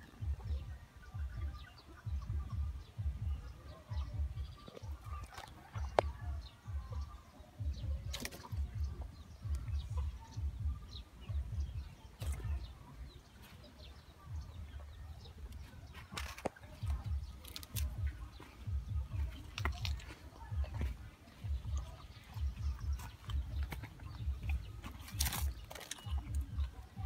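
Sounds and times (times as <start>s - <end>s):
faint bird chirps: 0.0s - 27.0s
low rumbling on microphone: 0.0s - 27.0s.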